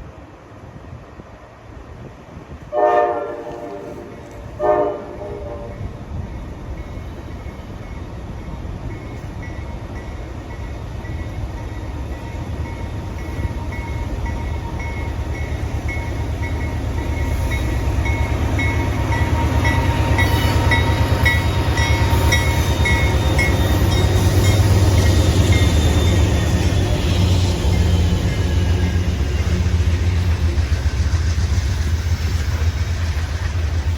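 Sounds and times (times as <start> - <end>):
train diesel rumble: 0.0 - 33.9.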